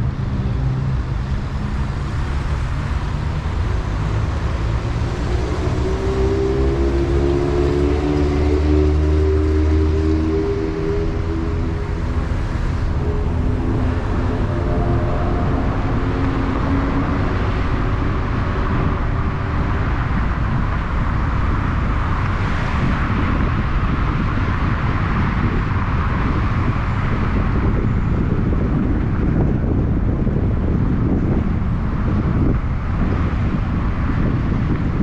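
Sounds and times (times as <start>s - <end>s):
car road and engine noise: 0.0s - 35.0s.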